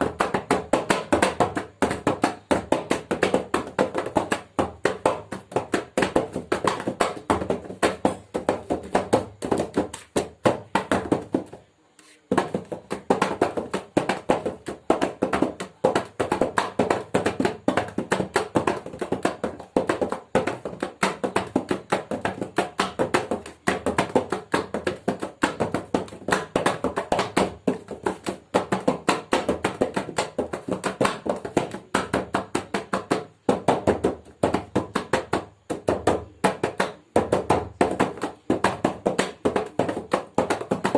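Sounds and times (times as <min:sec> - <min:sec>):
hand drum playing: 0:00.0 - 0:11.6, 0:12.3 - 0:40.9.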